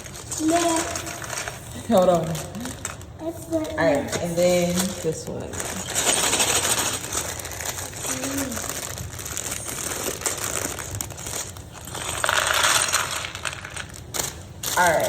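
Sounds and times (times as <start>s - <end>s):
plastic bag crinkling: 0.0s - 15.0s
plastic bricks shifting: 0.0s - 15.0s.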